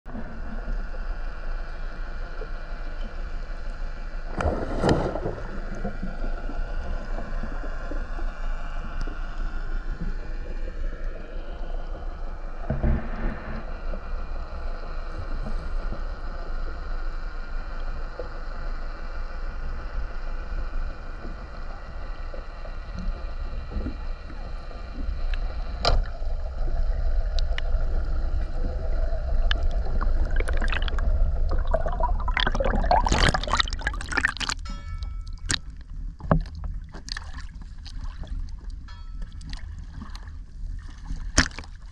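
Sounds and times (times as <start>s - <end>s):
underwater rush of water: 0.1s - 41.9s.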